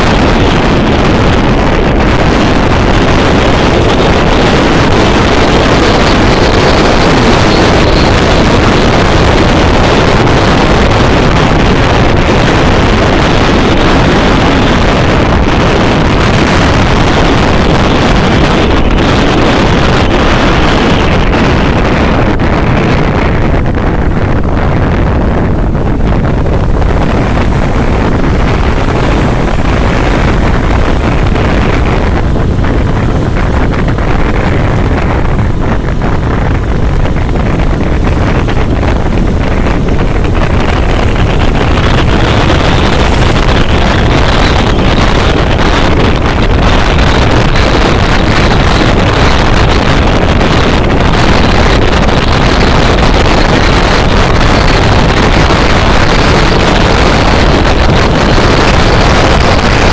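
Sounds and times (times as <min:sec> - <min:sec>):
vehicle engine: 0:00.0 - 0:59.9
wind buffeting microphone: 0:00.0 - 0:59.9.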